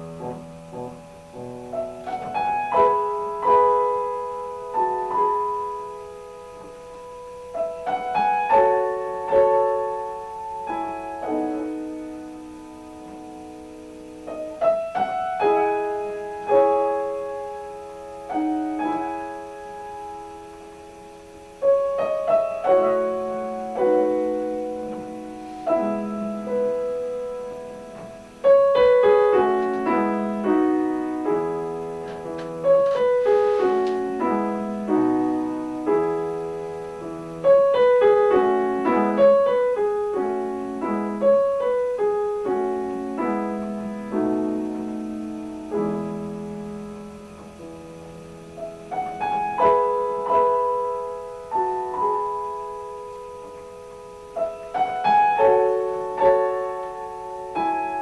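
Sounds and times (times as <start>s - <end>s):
slow piano piece: 0.0s - 58.0s.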